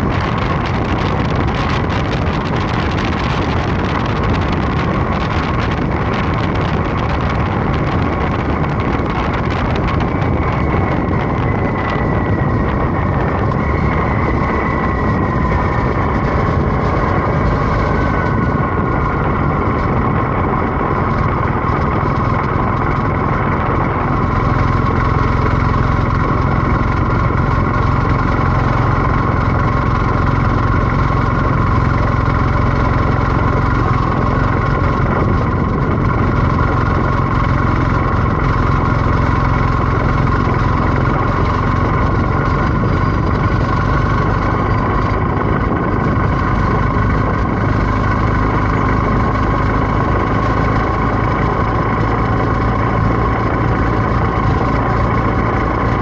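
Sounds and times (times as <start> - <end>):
motorcycle engine running steadily: 0.0 - 56.0.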